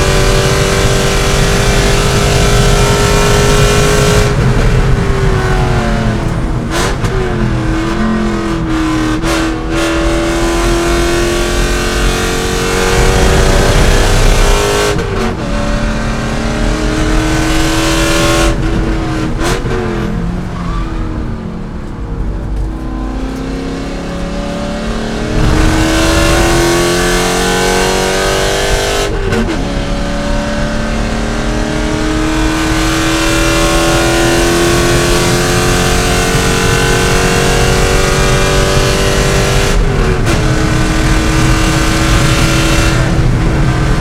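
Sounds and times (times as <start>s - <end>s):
car engine at full throttle: 0.0s - 44.0s.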